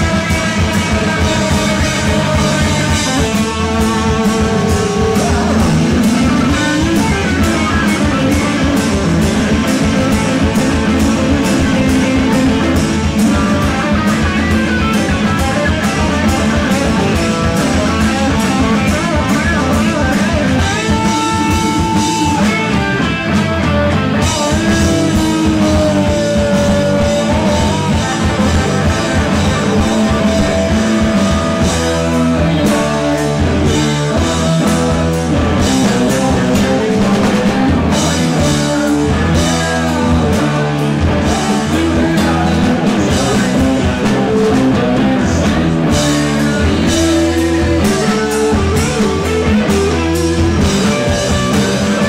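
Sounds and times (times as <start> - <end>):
bass guitar: 0.0 - 52.0
bending lead guitar notes: 0.0 - 52.0
drum kit: 0.0 - 52.0
electric guitars: 0.0 - 52.0.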